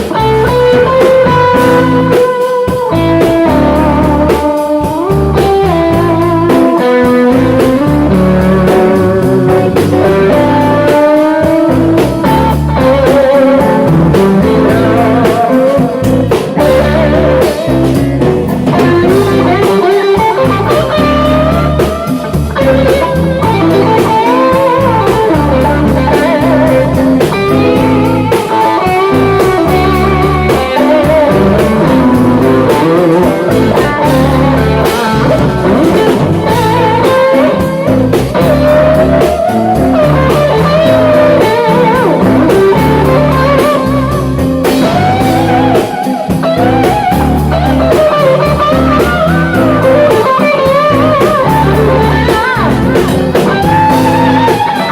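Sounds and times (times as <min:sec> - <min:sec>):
electric guitar lead bending notes: 0:00.0 - 0:54.9
rock band playing: 0:00.0 - 0:54.9.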